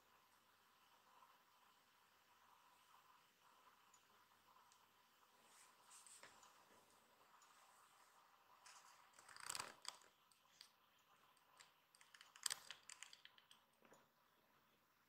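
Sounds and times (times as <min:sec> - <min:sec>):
faint rustling and clicking: 0:00.8 - 0:14.4.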